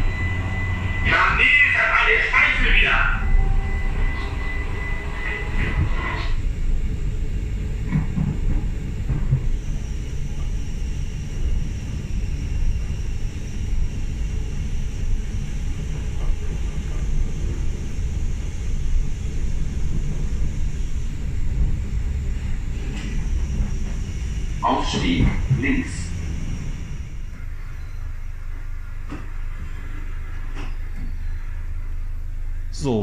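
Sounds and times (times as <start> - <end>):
train wheels rumbling on track: 0.0 - 32.9
faint high whine: 0.0 - 33.0.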